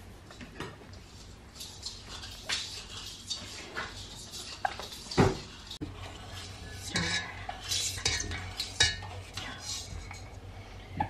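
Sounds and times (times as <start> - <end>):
metal utensil scraping steel bowl: 1.0 - 10.4.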